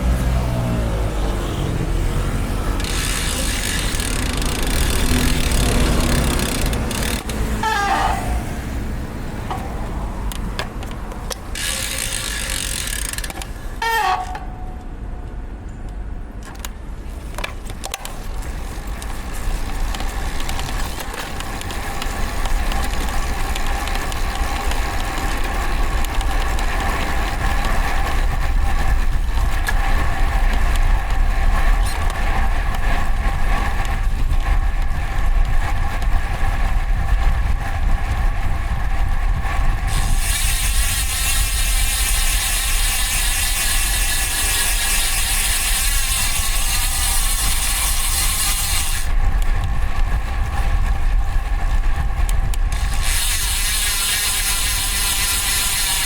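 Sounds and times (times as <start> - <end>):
road traffic: 0.0 - 56.0.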